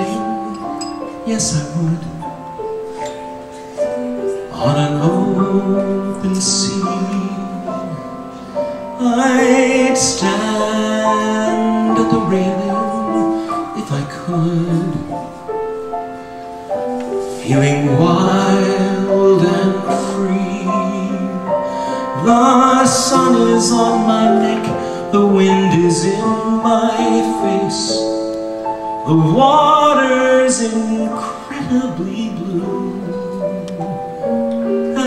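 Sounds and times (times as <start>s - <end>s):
man singing into microphone: 0.0s - 15.5s, 17.2s - 28.4s, 29.0s - 35.0s
piano accompaniment: 0.0s - 35.0s.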